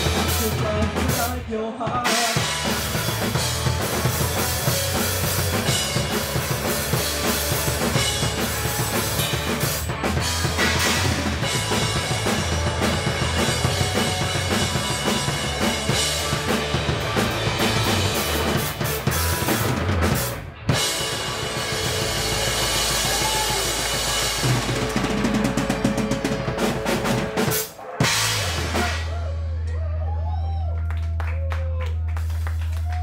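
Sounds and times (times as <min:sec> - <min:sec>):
electric guitar: 0:00.0 - 0:29.4
drum kit: 0:00.0 - 0:29.5
bass guitar: 0:00.0 - 0:33.0.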